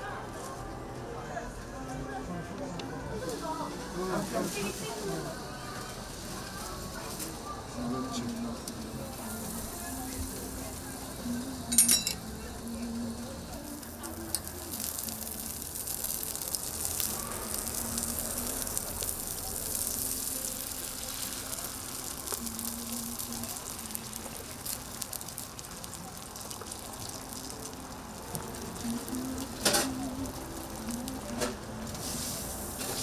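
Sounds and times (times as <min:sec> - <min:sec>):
food sizzling on a griddle: 0:03.2 - 0:33.0.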